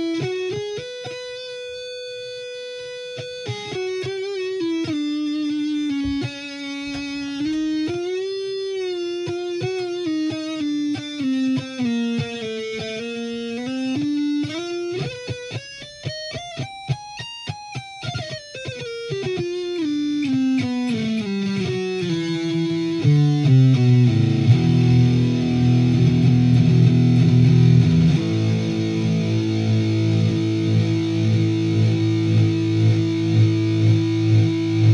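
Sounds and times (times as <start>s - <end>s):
overdriven electric guitar: 0.0s - 34.9s.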